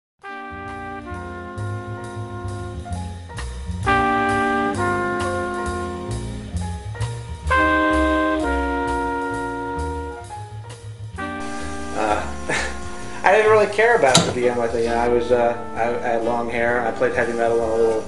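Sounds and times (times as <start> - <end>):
jazz brass chords: 0.2 - 18.0
bass line: 0.3 - 17.5.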